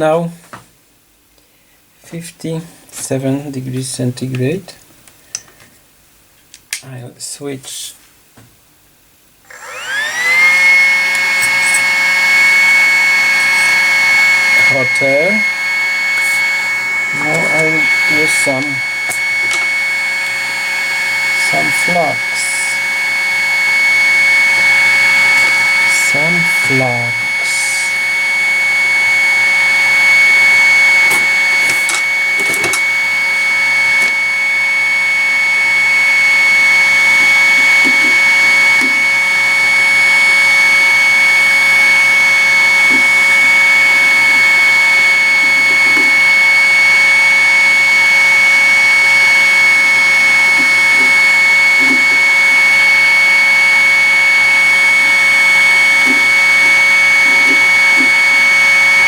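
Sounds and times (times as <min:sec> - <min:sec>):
high fan whine: 0:09.2 - 0:59.0
hot air blower hiss: 0:09.5 - 0:59.0.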